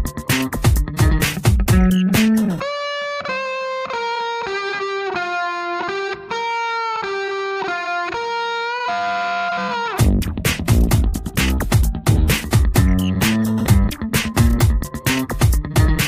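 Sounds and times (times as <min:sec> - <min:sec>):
background music with lead melody: 0:00.0 - 0:16.0.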